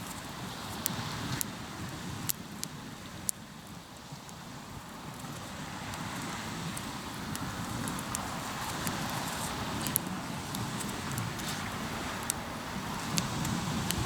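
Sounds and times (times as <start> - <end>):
campfire crackling and popping: 0.0 - 14.0
waves washing on shore: 0.0 - 14.0.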